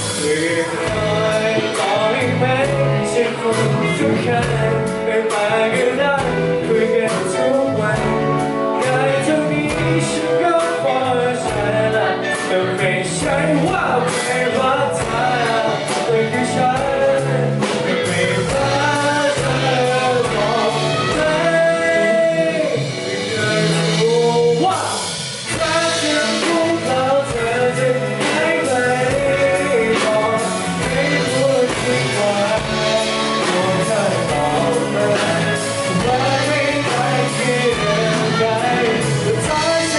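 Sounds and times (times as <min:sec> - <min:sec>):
band playing: 0:00.0 - 0:39.9
person singing live: 0:00.0 - 0:39.9.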